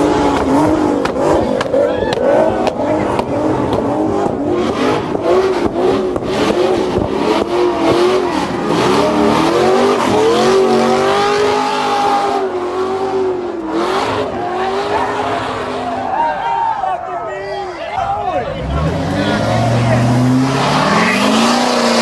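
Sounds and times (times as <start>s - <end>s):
car engine revving: 0.0s - 16.1s, 18.0s - 22.0s.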